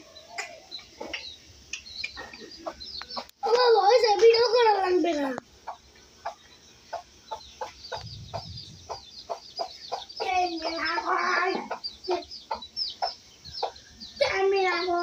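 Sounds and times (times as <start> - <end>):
high falling bird chirps: 0.0 - 15.0
bird clucks: 0.1 - 3.7, 5.5 - 14.8.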